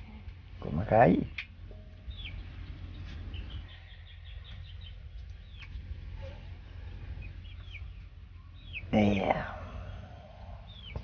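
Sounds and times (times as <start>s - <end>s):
steady low rumble: 0.0s - 11.0s
small bird chirping: 0.1s - 9.6s, 10.4s - 11.0s.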